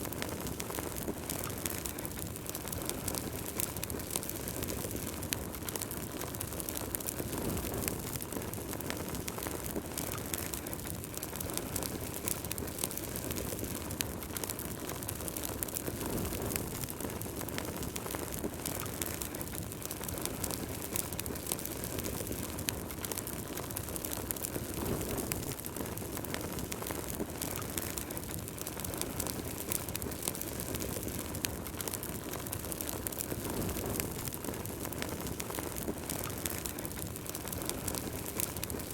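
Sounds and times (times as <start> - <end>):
fire flames rushing: 0.0 - 38.9
wood crackling and popping: 0.0 - 38.9.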